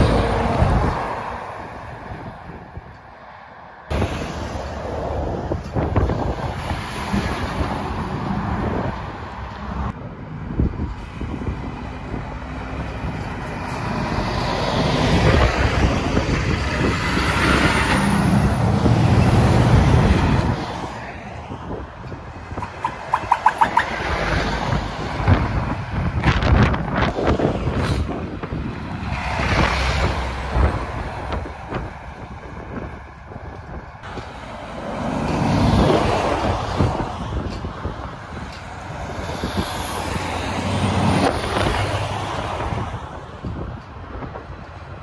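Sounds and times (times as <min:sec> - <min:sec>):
lorries driving past: 0:00.0 - 0:45.0.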